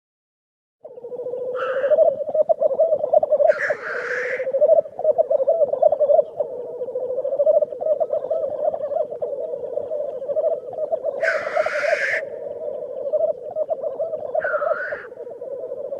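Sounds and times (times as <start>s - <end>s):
grouse bubbling coo: 0.8s - 15.9s.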